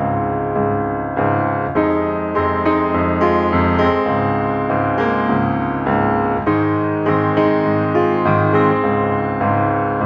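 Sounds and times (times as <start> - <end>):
piano background music: 0.0 - 10.0.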